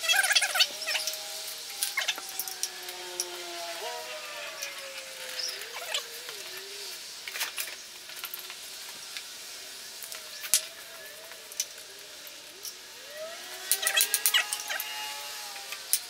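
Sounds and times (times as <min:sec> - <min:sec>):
faint wavering whine: 0:00.0 - 0:16.0.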